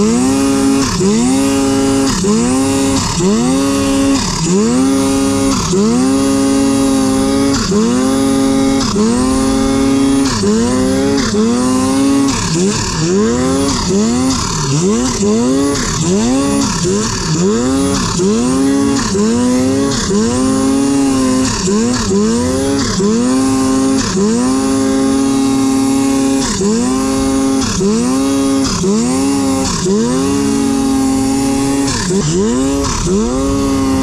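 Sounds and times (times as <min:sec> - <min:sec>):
snowmobile engine revving: 0:00.0 - 0:34.0.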